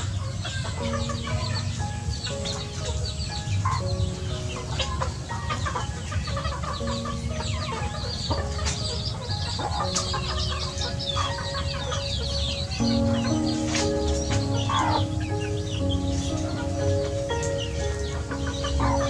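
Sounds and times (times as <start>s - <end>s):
background music of held notes: 0.0s - 19.0s
young chickens clucking and chirping: 0.0s - 19.0s.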